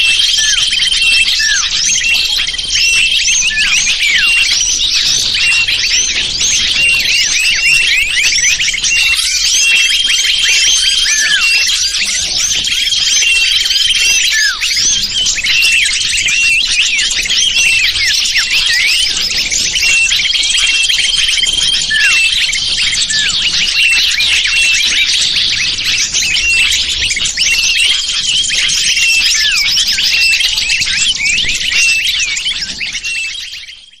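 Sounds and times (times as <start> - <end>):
small birds chirping and twittering: 0.0 - 34.0.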